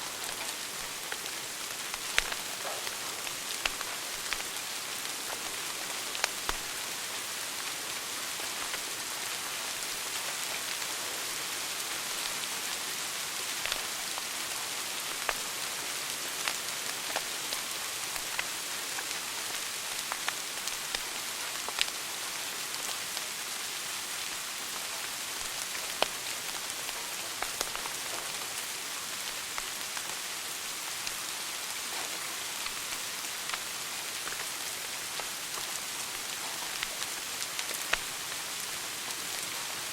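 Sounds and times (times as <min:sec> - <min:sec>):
wood fire crackling: 0:00.0 - 0:11.0, 0:11.8 - 0:39.9.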